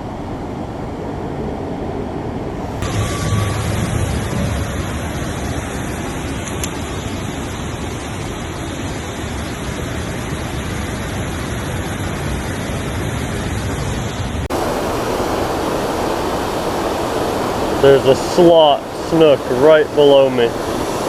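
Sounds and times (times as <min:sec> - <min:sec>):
water rushing through spillway: 0:02.8 - 0:21.0.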